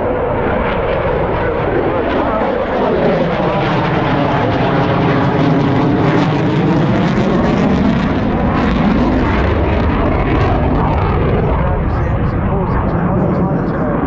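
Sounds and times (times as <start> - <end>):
loud jet engine noise: 0.0 - 14.0.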